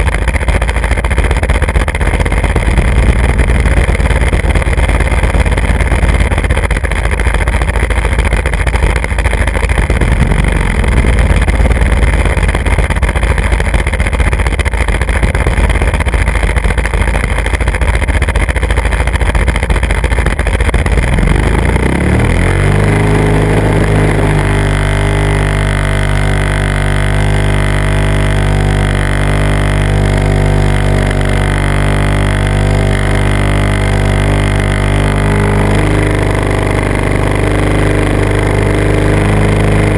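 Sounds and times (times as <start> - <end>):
model aircraft motor drone: 0.0 - 39.9
wheels rumbling over pavement: 0.0 - 39.9.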